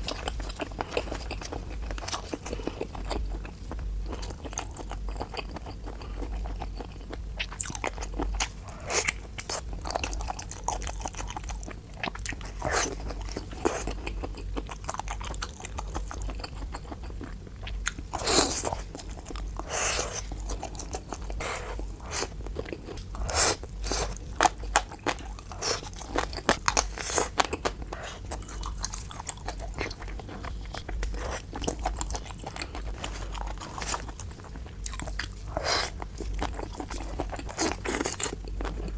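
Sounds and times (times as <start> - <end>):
person chewing and biting food: 0.0 - 38.9.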